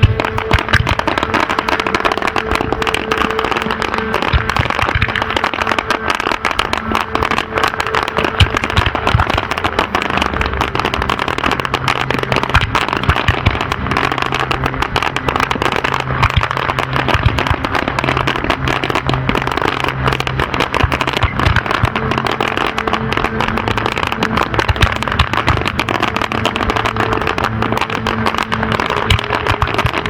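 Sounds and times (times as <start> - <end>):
fireworks pops and cracks: 0.0 - 30.0
low hum: 0.0 - 30.0.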